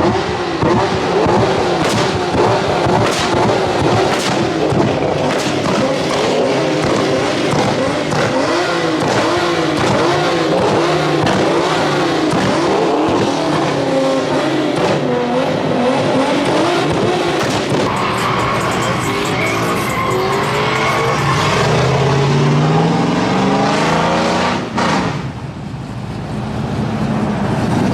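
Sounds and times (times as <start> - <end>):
truck engines revving: 0.0 - 27.9.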